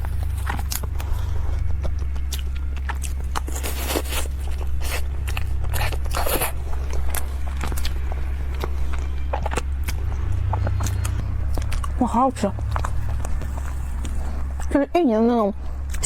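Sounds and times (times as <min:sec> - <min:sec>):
crunchy chewing: 0:00.0 - 0:14.8
steady low hum: 0:00.0 - 0:16.0.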